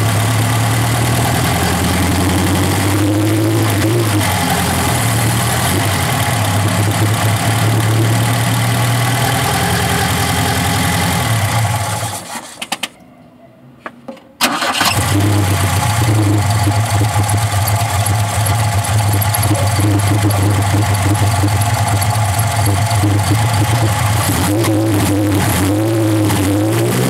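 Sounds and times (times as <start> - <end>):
car engine idling: 0.0 - 12.4, 14.5 - 27.0.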